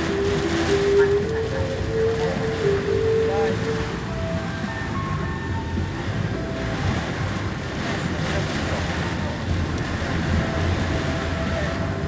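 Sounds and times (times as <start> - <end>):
low vehicle rumble: 0.0 - 12.0
rain: 0.0 - 12.0.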